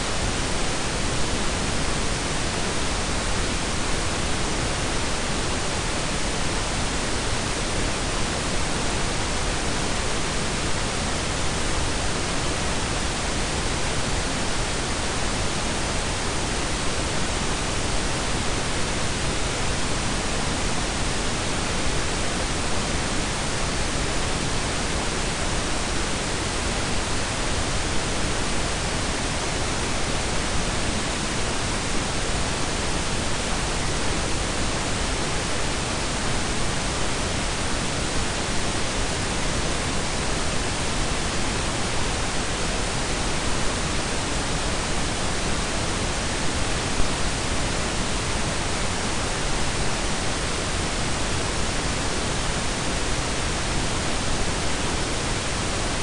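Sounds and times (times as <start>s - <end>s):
pink and brown noise: 0.0s - 56.0s.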